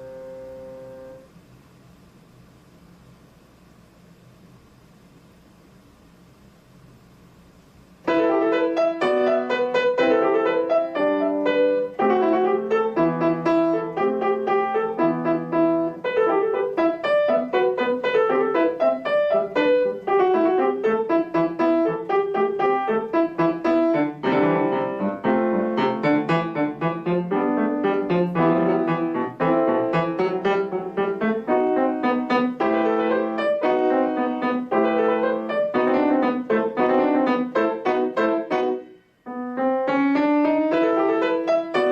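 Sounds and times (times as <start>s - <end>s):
solo piano piece: 0.0s - 1.3s, 8.0s - 41.9s.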